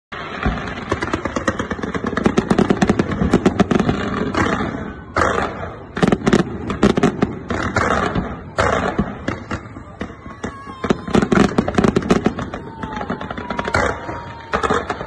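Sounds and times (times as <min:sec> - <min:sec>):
fireworks bangs: 0:00.1 - 0:15.0
fireworks crackling: 0:00.1 - 0:15.0.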